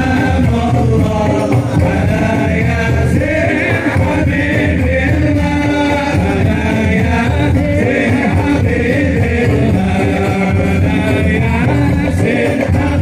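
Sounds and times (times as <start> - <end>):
dense steady percussion: 0.0 - 13.0
man singing devotional song: 0.0 - 13.0
voices joining in singing: 0.0 - 13.0.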